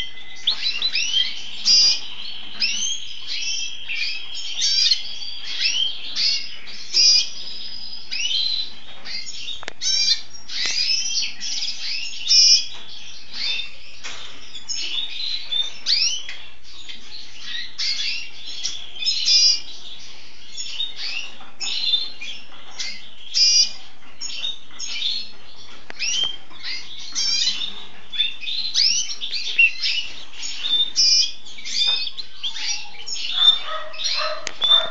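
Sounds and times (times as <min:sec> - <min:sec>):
bird singing twittering song: 0:00.0 - 0:34.9.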